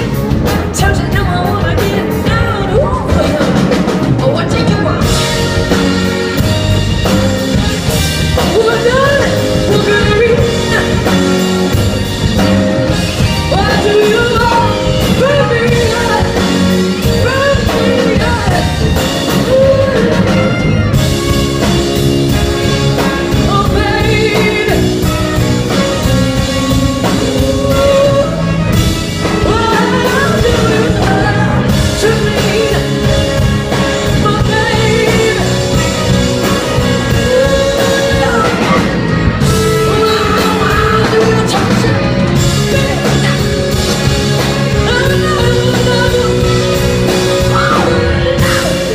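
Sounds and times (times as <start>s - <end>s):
bass: 0.0s - 48.9s
drum beat: 0.0s - 48.9s
lead melody bending in pitch: 0.0s - 48.9s.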